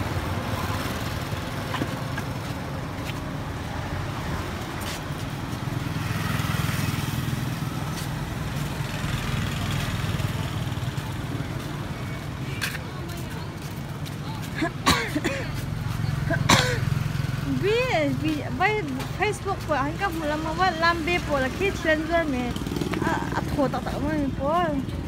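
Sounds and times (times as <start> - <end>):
motorcycle engines in traffic: 0.0 - 25.0.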